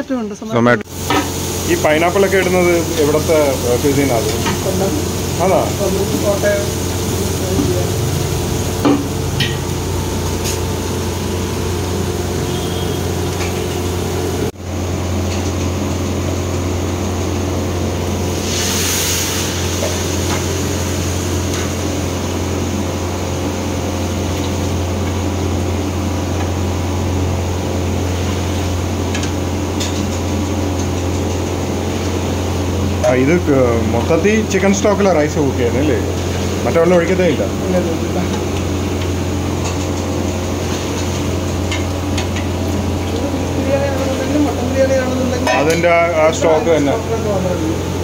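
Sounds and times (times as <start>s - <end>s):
kitchen equipment humming: 0.0s - 48.0s.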